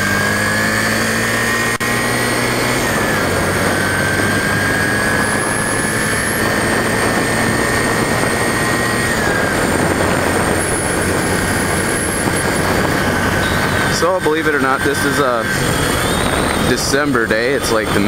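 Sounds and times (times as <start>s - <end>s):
motorcycle engine running: 0.0s - 18.0s
thin whine: 0.0s - 18.0s
wind rushing over microphone: 0.0s - 18.0s.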